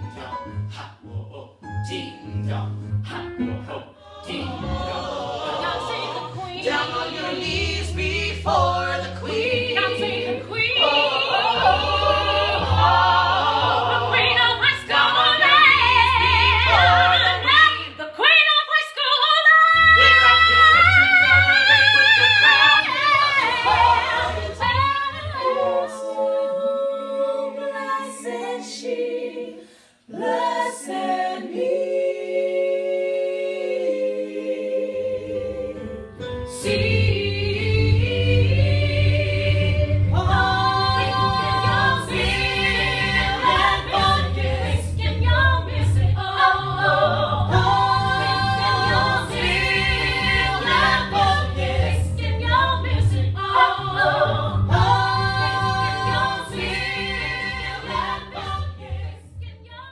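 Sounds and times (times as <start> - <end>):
mixed voices singing in harmony: 0.0 - 18.3, 19.4 - 59.9.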